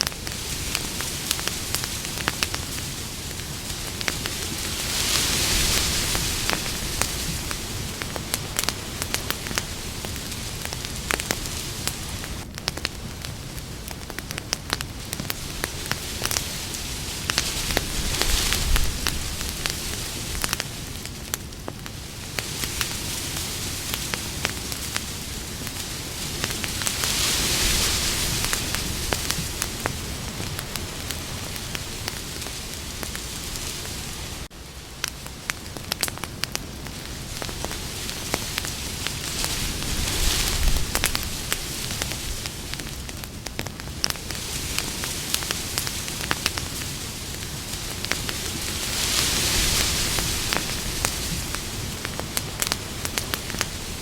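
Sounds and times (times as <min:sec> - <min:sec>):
campfire crackling and popping: 0:00.0 - 0:54.0
hiss of burning wood: 0:00.0 - 0:54.0.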